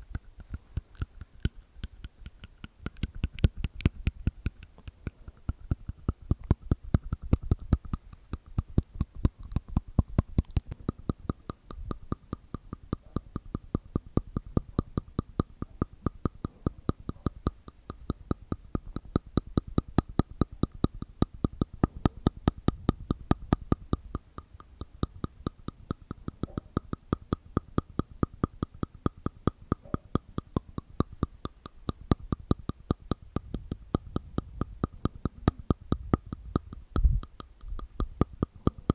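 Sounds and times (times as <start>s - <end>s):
wet mouth clicks: 0.0s - 38.9s.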